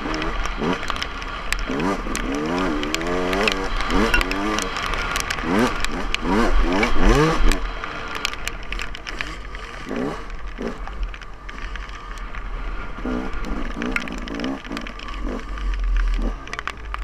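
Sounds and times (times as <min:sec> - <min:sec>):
dirt bike engine revving: 0:00.0 - 0:16.7
sharp clicks: 0:00.0 - 0:17.0.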